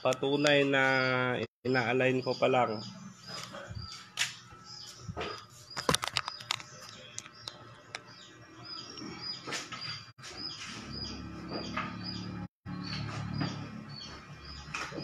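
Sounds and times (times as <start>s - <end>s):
small bird chirping: 1.8s - 15.0s.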